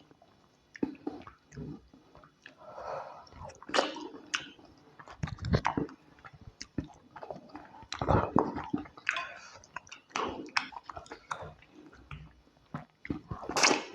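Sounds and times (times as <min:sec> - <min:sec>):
wet chewing: 0:00.2 - 0:13.9
mouth clicks and smacks: 0:00.7 - 0:02.6, 0:03.2 - 0:13.9.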